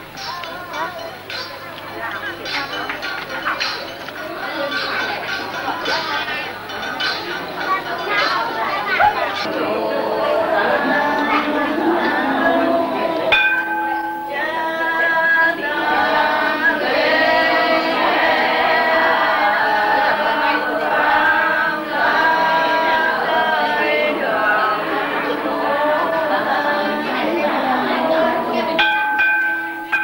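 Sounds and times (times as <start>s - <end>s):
group of voices singing: 2.4s - 29.4s.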